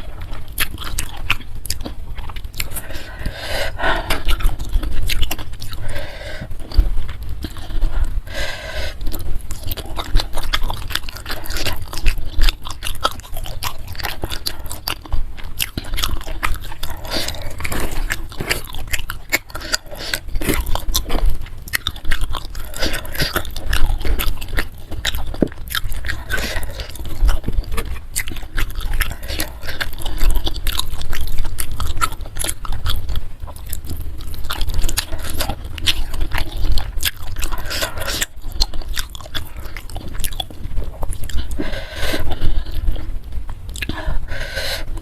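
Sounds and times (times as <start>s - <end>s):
chewing crunchy food: 0.0s - 45.0s.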